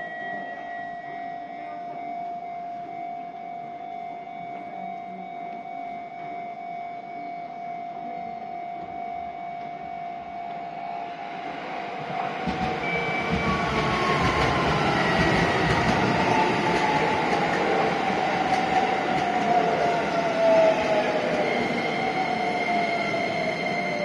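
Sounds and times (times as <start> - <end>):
electric train whine falling in pitch: 0.0 - 24.0.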